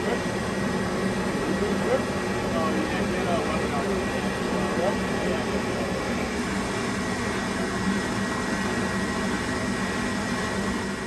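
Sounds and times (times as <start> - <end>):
boiler burner rushing and humming: 0.0 - 11.0.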